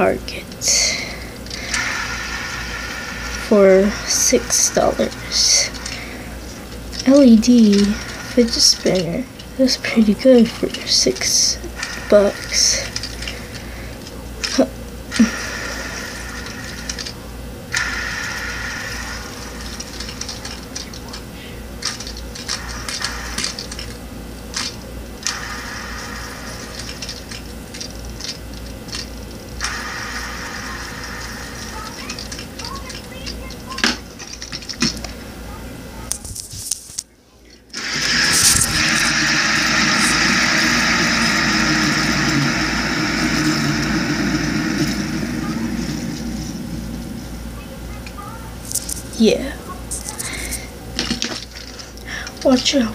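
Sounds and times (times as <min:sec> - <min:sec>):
fidget spinner whirring: 0:00.0 - 0:52.9.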